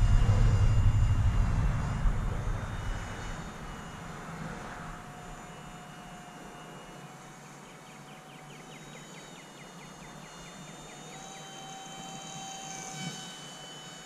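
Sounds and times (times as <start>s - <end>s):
electric motor propeller whine: 0.0s - 14.0s.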